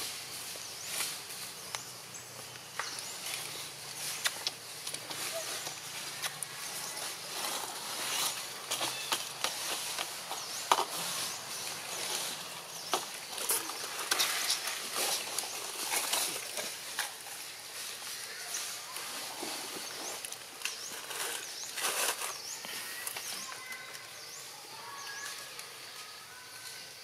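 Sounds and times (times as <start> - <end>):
rustles: 0.0 - 27.0
steady high hiss: 0.0 - 27.0.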